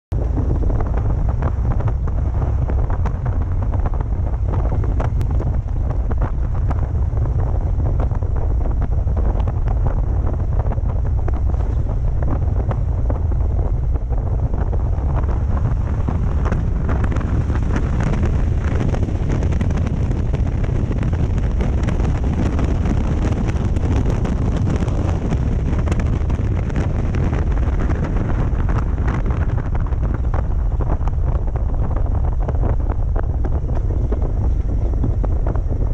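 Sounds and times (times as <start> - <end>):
motorcycle engine rumble: 0.1 - 35.9
wind buffeting microphone: 0.1 - 35.9.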